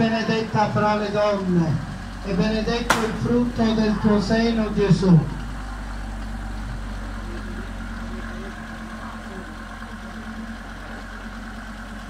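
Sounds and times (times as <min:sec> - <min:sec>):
car engine idling: 0:00.0 - 0:12.0
faint voices: 0:00.0 - 0:12.0.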